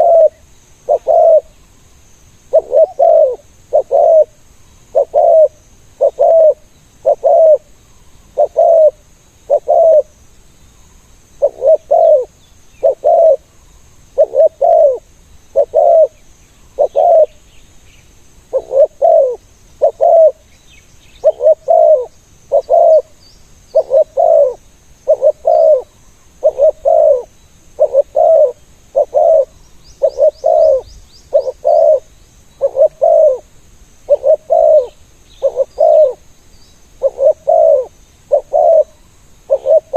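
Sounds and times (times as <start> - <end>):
doves cooing: 0.0 - 1.6, 2.5 - 7.7, 8.3 - 10.1, 11.4 - 13.5, 14.2 - 16.2, 16.8 - 17.4, 18.5 - 20.4, 21.2 - 23.1, 23.7 - 33.5, 34.1 - 36.2, 37.0 - 39.9
faint small bird chirps: 0.0 - 39.9.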